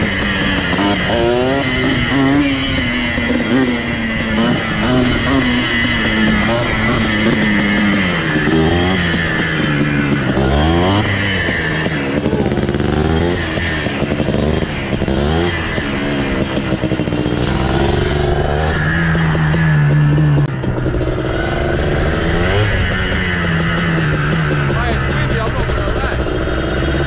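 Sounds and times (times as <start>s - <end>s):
two-stroke quad engine revving: 0.0s - 27.0s.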